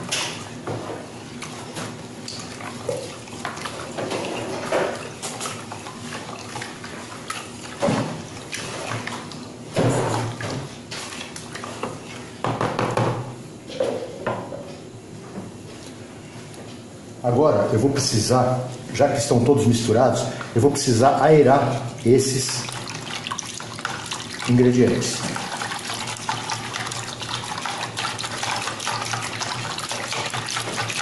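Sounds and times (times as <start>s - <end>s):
liquid sloshing in bowl: 0.0s - 12.5s, 18.0s - 31.0s.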